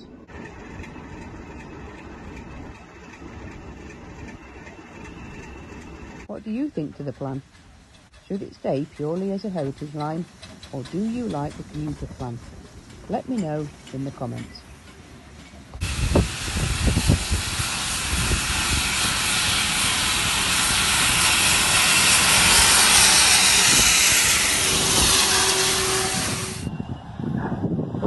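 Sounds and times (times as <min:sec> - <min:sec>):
steam locomotive hissing: 0:00.4 - 0:26.7.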